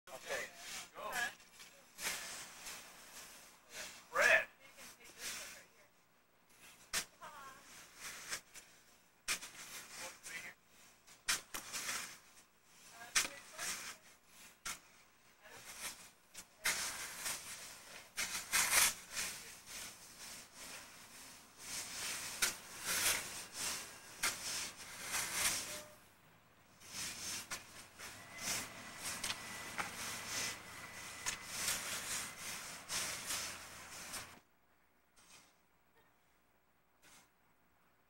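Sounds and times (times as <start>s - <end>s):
rakes scraping through sand: 0.1s - 5.8s, 6.5s - 26.1s, 26.7s - 34.4s, 35.2s - 35.6s, 37.0s - 37.3s.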